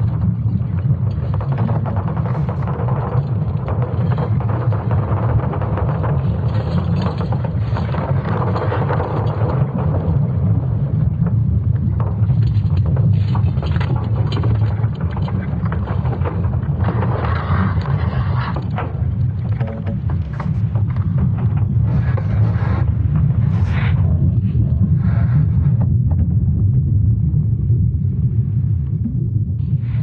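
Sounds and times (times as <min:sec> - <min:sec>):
crackles and creaks: 0:00.0 - 0:30.0
steady low rumble: 0:00.0 - 0:30.0.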